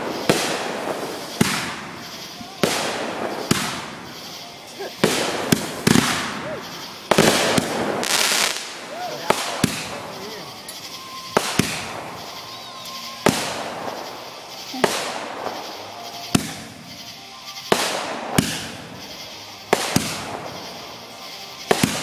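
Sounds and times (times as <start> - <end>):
fireworks bangs with crackling hiss: 0.0 - 22.0.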